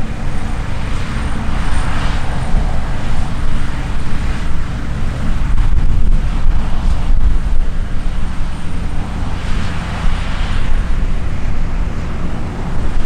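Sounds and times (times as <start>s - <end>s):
deep engine rumble: 0.0s - 13.0s
rushing hiss: 0.0s - 13.0s.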